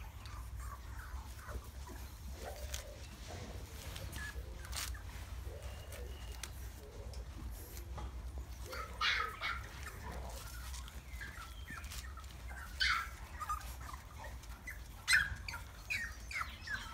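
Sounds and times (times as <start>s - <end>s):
puppies yelping and whining: 0.0s - 16.9s.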